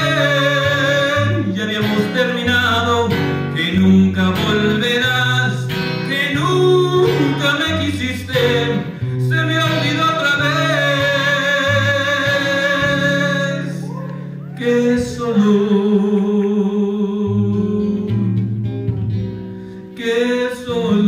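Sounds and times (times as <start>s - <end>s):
man singing: 0.0s - 18.5s, 19.9s - 21.0s
strummed acoustic guitar: 0.0s - 21.0s.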